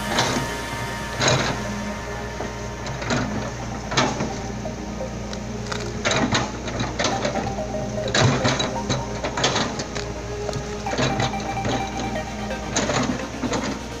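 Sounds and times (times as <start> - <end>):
machinery engine hum: 0.0 - 14.0.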